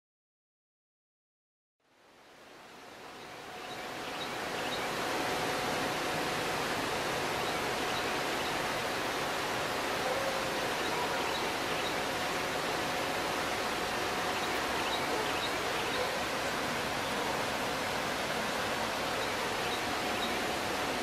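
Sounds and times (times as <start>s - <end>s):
creek water rushing: 1.8s - 21.0s.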